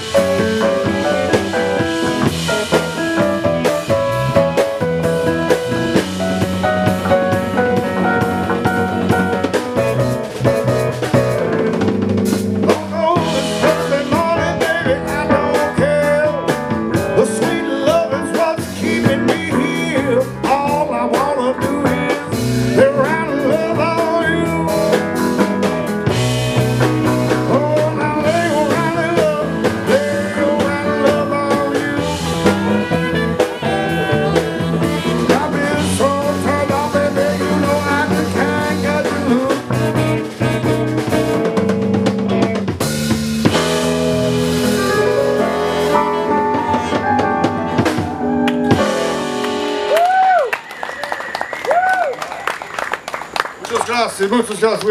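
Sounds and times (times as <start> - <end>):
live band playing: 0.0 - 54.8.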